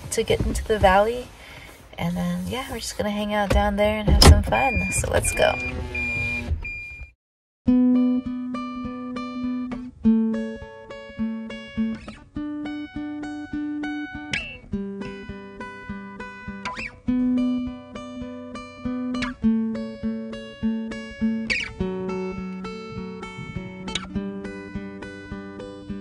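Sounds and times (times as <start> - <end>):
picked acoustic guitar: 0.0 - 6.4, 7.7 - 26.0.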